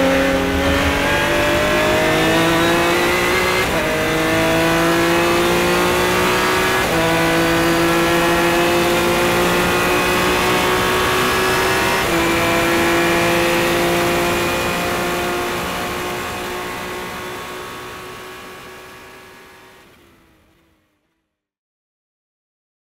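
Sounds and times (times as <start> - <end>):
race car engine at full throttle: 0.0 - 21.2.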